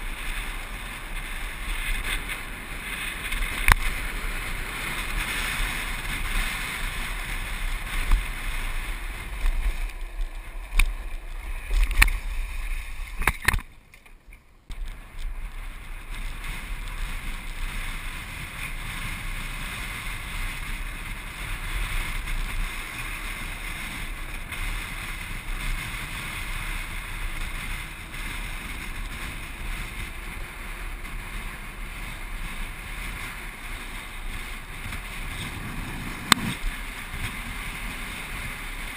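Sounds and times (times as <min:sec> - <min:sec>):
wind rush and low rumble: 0:00.0 - 0:38.9.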